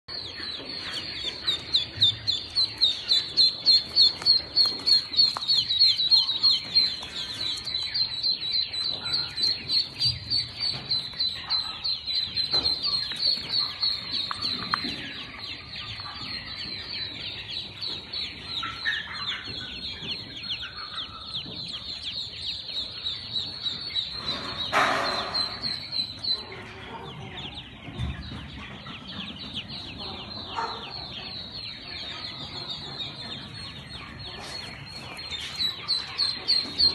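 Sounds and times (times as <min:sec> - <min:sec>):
ducklings peeping: 0:00.1 - 0:36.9.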